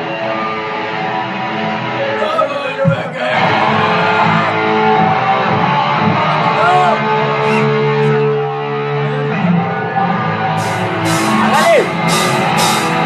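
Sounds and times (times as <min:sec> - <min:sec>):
guitar chords strummed: 0:00.0 - 0:13.0.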